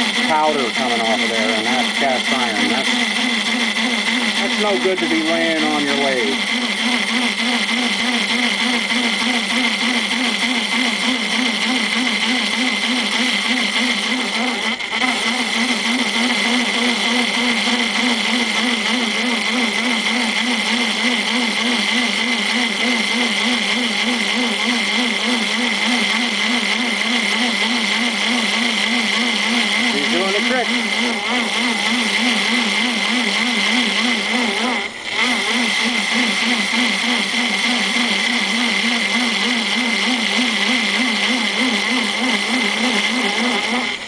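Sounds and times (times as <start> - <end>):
high-pitched cutting ring: 0.0 - 44.0
pulsing lathe hum: 0.0 - 44.0.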